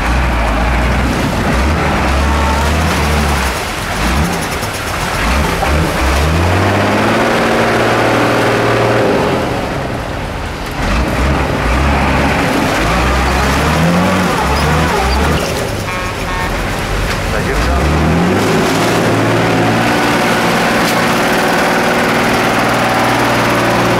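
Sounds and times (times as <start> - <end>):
diesel engine revving: 0.0 - 23.9.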